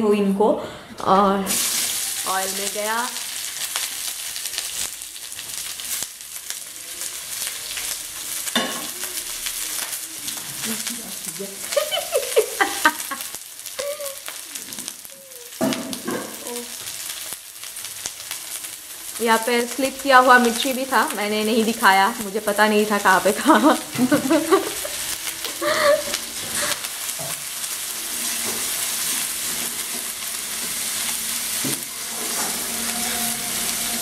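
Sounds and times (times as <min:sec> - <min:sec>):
onion sizzling in hot oil: 0:01.4 - 0:34.0.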